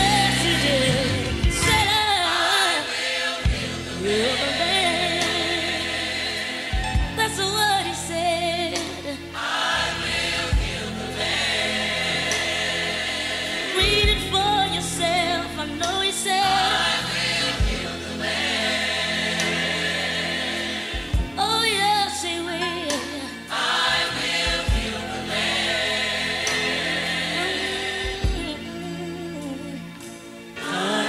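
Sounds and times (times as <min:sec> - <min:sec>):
bass line: 0:00.0 - 0:02.1, 0:03.5 - 0:06.2, 0:06.8 - 0:09.1, 0:09.9 - 0:22.2, 0:24.1 - 0:29.8
gospel choir singing: 0:00.0 - 0:31.0.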